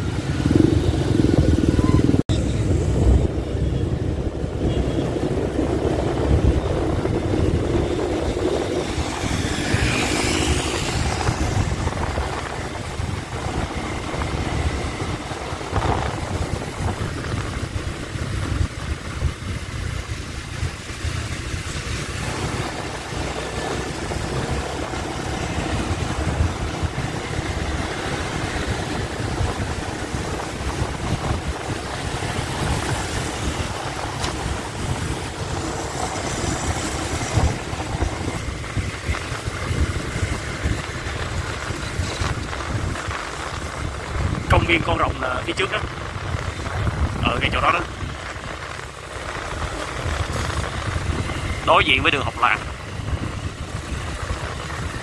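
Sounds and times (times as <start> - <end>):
passing vehicle whoosh: 0.0 - 44.6
motorbike engines running: 0.0 - 55.0
wind rumble on microphone: 0.0 - 55.0.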